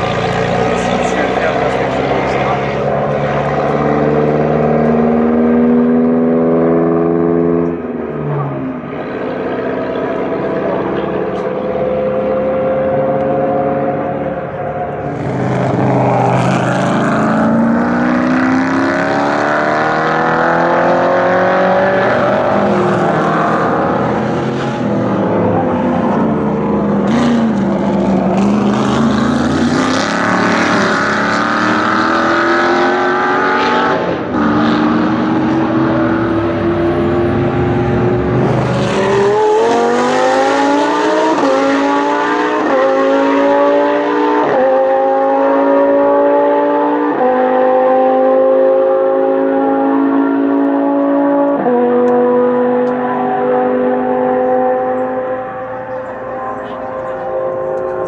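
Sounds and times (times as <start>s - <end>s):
racing car engines accelerating past: 0.0s - 58.0s.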